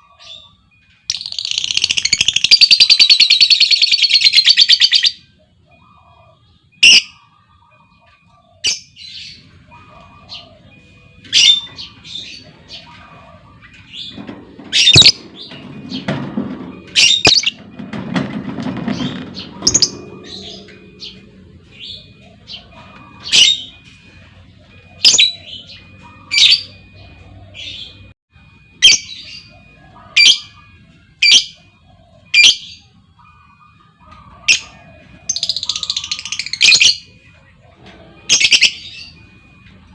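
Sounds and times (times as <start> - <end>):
lovebird chirping and squawking: 0.0 - 16.2, 16.9 - 17.6, 18.9 - 28.1, 28.8 - 30.6, 32.3 - 33.6, 34.2 - 37.2, 38.1 - 39.3.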